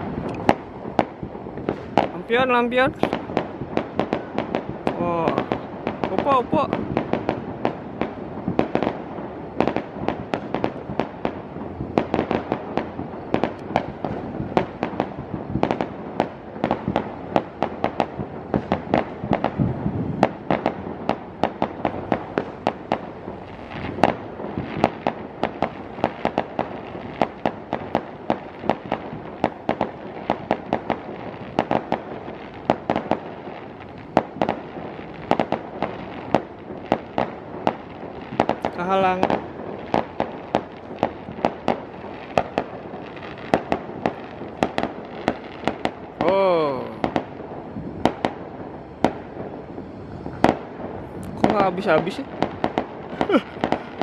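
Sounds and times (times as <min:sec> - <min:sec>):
fireworks cracking and banging: 0:00.0 - 0:54.0.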